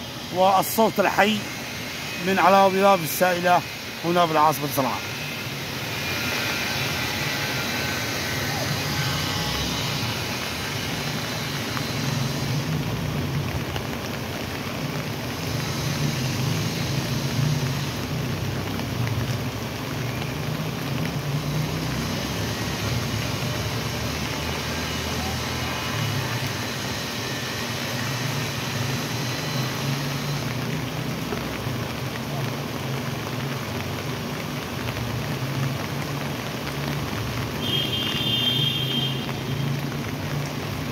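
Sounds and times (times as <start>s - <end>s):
water rushing down channel: 0.0s - 40.9s.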